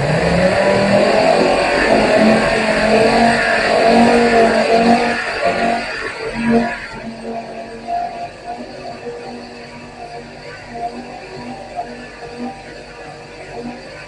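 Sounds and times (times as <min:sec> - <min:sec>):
air sander on metal: 0:00.0 - 0:14.0.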